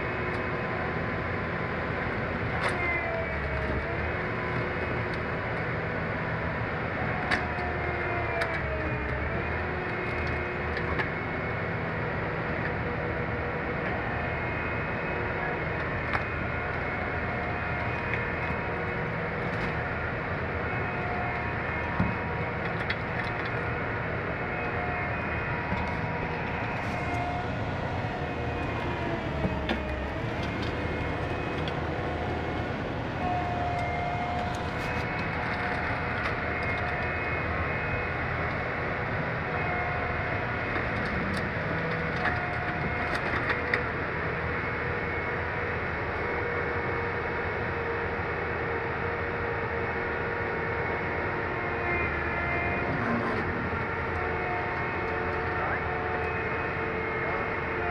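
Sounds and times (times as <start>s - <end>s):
excavator diesel engine: 0.0s - 57.9s
hydraulic whine: 0.0s - 57.9s.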